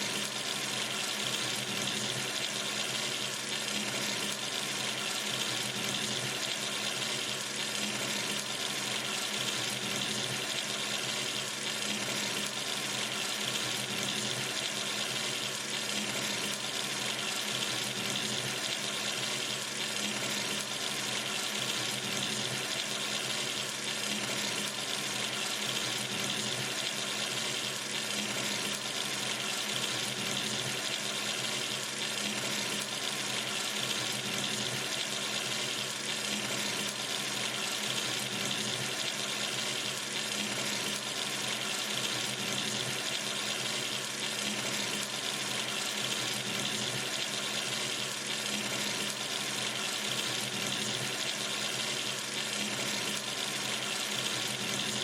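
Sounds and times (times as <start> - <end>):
tap water running into sink: 0.0 - 55.0.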